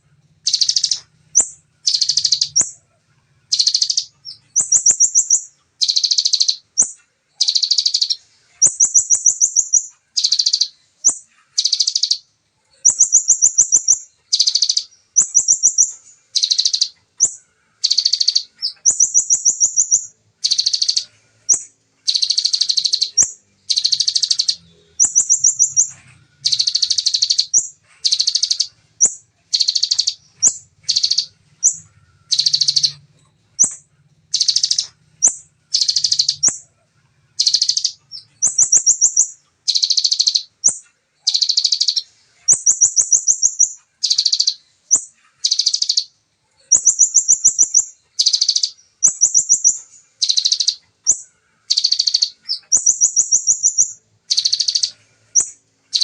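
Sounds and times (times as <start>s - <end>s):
bird singing fast trilled bursts: 0.3s - 56.0s.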